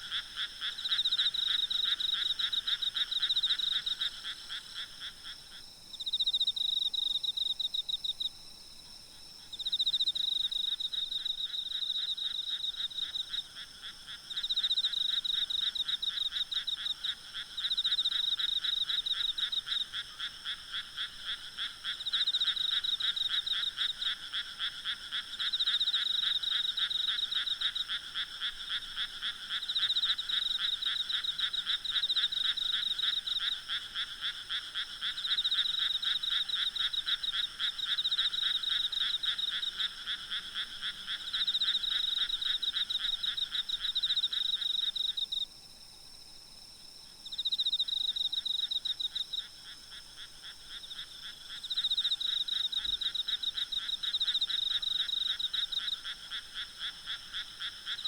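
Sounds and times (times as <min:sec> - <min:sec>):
frogs croaking: 0:00.0 - 0:08.3, 0:09.2 - 0:45.5, 0:46.8 - 0:58.0
faint insects trilling: 0:00.0 - 0:58.0.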